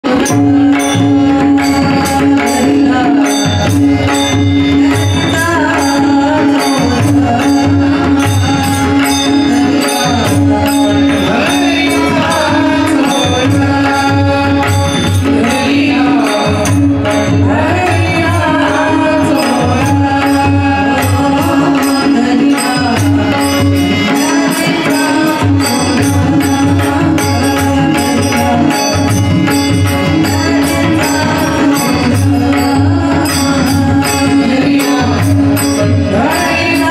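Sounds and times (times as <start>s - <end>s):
harmonium: 0.0s - 36.9s
tabla: 0.0s - 36.9s
women singing devotional song: 0.0s - 36.9s.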